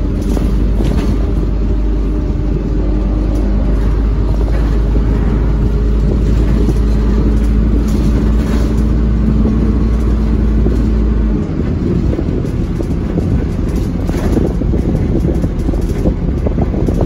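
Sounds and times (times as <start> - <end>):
bus diesel engine drone: 0.0 - 17.0.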